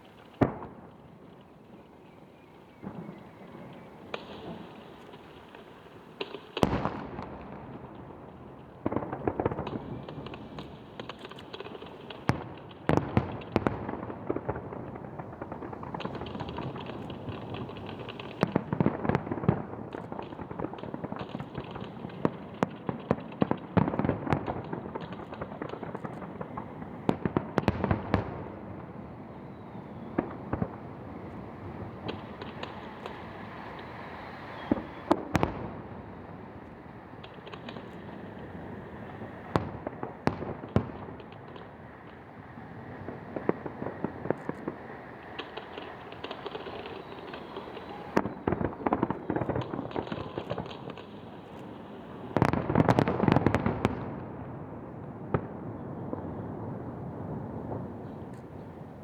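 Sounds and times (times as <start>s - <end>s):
fireworks crackling and banging: 0.0s - 59.0s.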